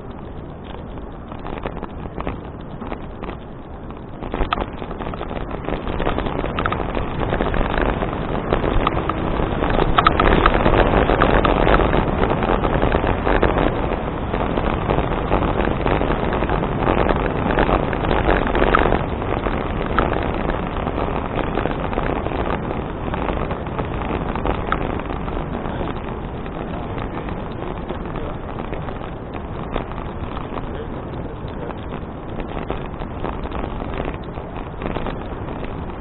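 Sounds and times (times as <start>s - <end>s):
bicycle rattles: 0.0s - 36.0s
tyre and road noise: 0.0s - 36.0s
wind rushing over microphone: 0.0s - 36.0s.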